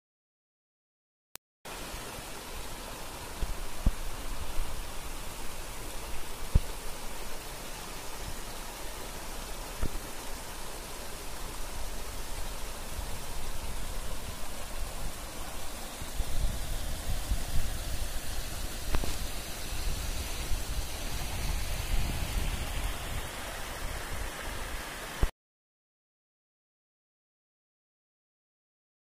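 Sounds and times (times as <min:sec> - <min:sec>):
water rushing over boulders: 0:01.7 - 0:25.3.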